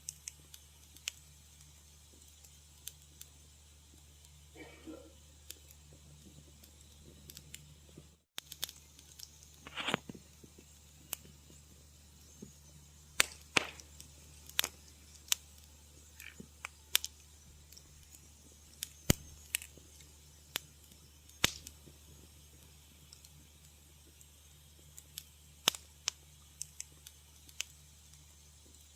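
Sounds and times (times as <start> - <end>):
low steady hum: 0.0 - 28.9
wood fire crackling: 0.0 - 28.9.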